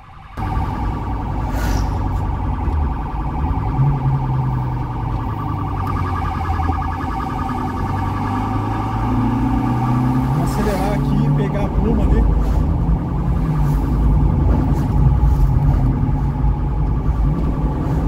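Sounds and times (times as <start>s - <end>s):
police siren warbling: 0.0s - 18.0s
car engine accelerating: 0.4s - 18.0s.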